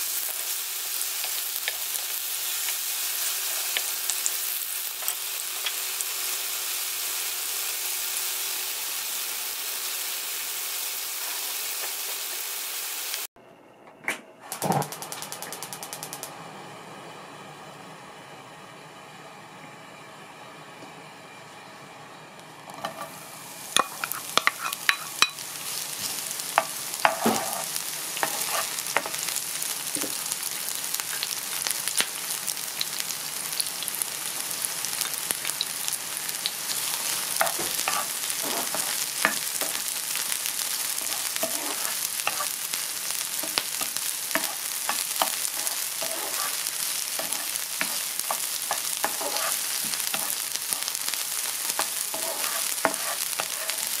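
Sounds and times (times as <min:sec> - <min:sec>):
spatula stir-frying: 0:00.0 - 0:13.3, 0:22.8 - 0:54.0
vegetables sizzling in hot oil: 0:00.0 - 0:13.3, 0:22.7 - 0:54.0.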